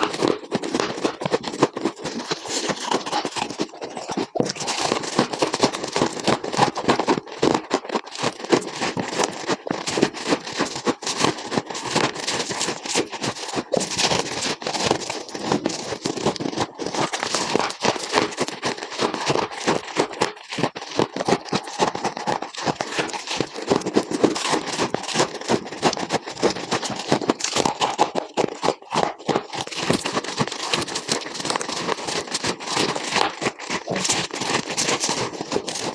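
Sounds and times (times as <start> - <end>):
ice crunching: 0.0 - 35.9.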